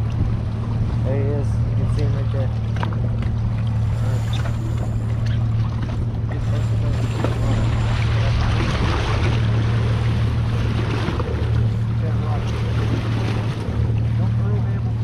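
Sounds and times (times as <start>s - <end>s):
boat engine idling: 0.0s - 15.0s
water splashing: 0.0s - 15.0s.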